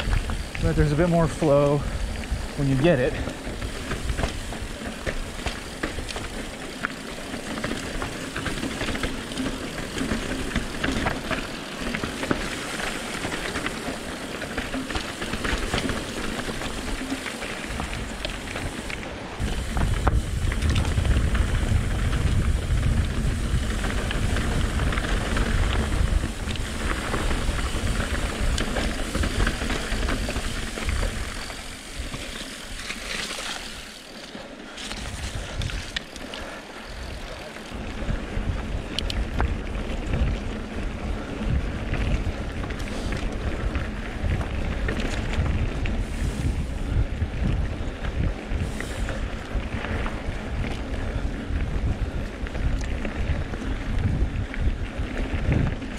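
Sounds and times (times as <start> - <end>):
wind buffeting microphone: 0.0 - 32.9, 34.8 - 36.0, 36.9 - 55.9
tyres crunching over dirt and rock: 0.0 - 46.6
bike rattling in quick clicks: 0.0 - 55.9.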